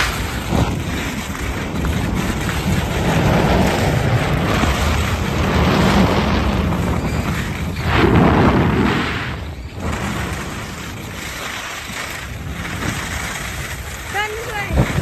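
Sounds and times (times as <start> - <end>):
skis sliding on snow: 0.0 - 15.0
wind rushing over microphone: 0.0 - 15.0.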